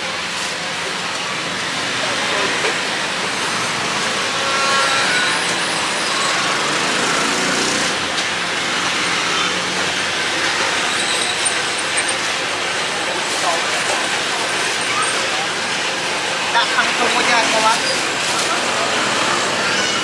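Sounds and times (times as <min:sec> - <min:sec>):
road traffic passing: 0:00.0 - 0:20.0.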